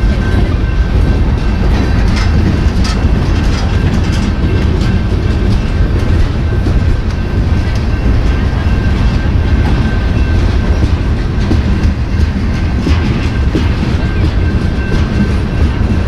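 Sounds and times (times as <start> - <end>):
freight train cars rumbling: 0.0 - 16.0
wheels clacking over rail: 0.0 - 16.0.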